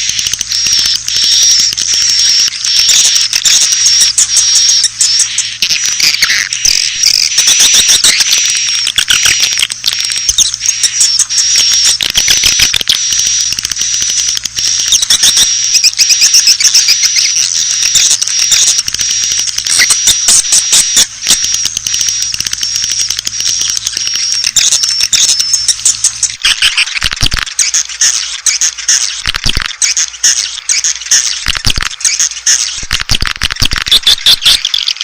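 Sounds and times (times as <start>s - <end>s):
swiftlets chirping: 0.0s - 35.0s
thin steady high tone: 0.0s - 35.0s.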